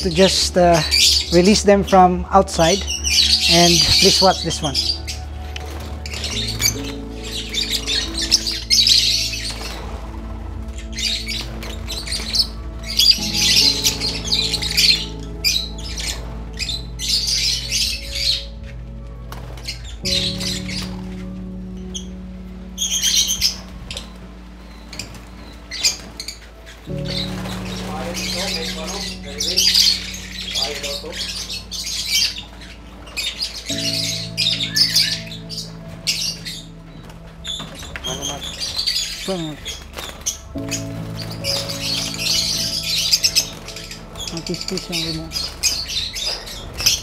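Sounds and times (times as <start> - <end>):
background music with sustained notes: 0.0 - 47.0
lovebirds squawking and chirping: 0.0 - 47.0.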